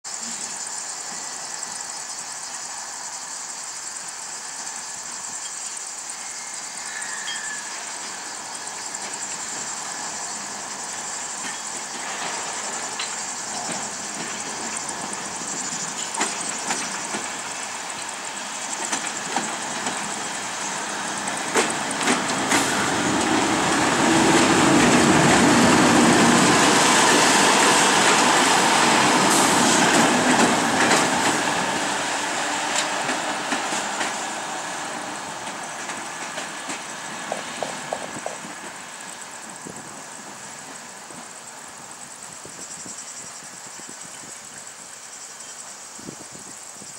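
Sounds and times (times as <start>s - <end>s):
diesel locomotive engine passing: 0.2s - 42.9s.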